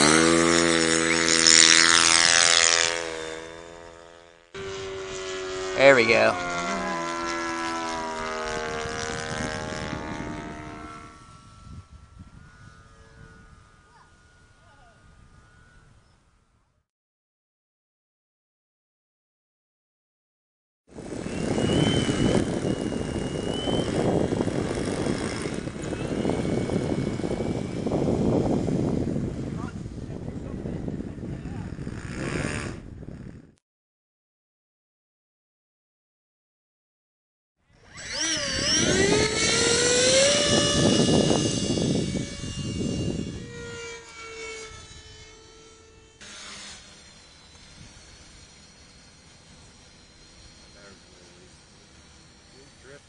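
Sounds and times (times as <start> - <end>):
model airplane motor whining: 0.0 - 16.8, 20.9 - 33.6, 37.7 - 53.0.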